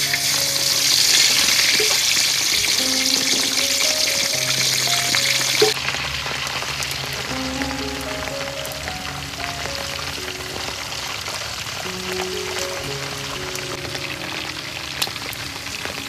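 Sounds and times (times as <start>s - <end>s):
background music: 0.0s - 5.8s, 7.1s - 16.0s
offal sizzling in hot oil: 0.0s - 8.4s, 9.0s - 16.0s.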